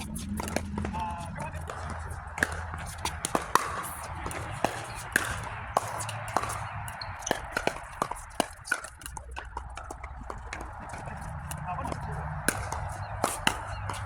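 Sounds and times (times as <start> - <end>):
paddles striking plastic ball: 0.0 - 14.0.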